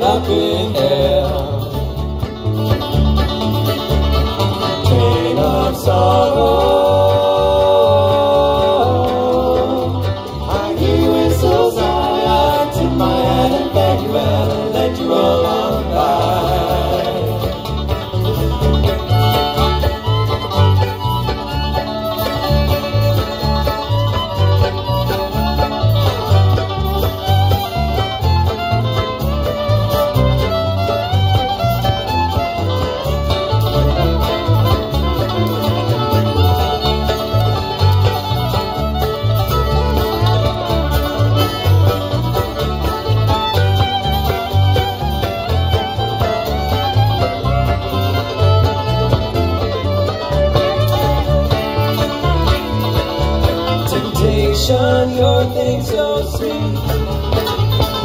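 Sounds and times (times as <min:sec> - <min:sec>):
acoustic guitar: 0:00.0 - 0:58.0
banjo: 0:00.0 - 0:58.0
drums: 0:00.0 - 0:58.0
electric bass: 0:00.0 - 0:58.0
fiddle: 0:00.0 - 0:58.0
mandolin: 0:00.0 - 0:58.0.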